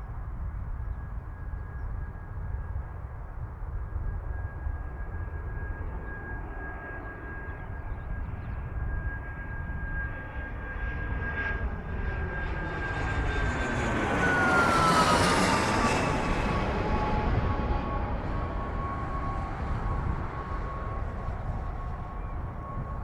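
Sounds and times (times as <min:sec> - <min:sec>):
airliner engines whining: 0:00.9 - 0:23.0.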